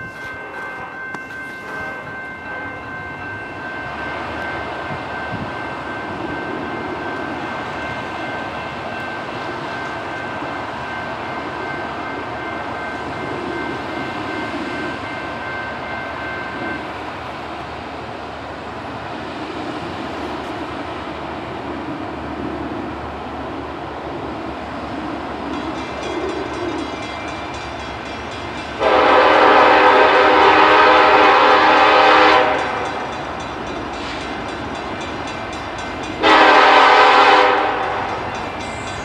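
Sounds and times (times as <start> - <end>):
train rumble: 0.0 - 39.0.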